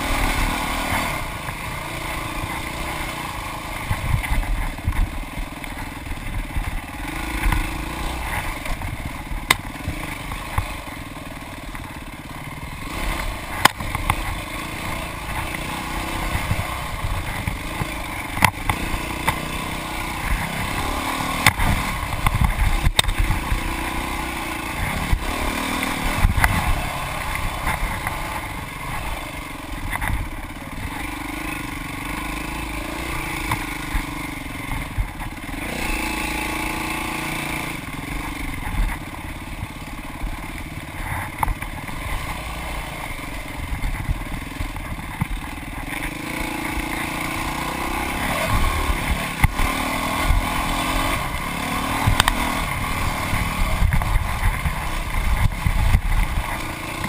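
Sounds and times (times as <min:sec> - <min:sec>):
dirt bike engine: 0:00.0 - 0:57.0
bike knocks and rattles: 0:00.9 - 0:32.1, 0:37.2 - 0:57.0.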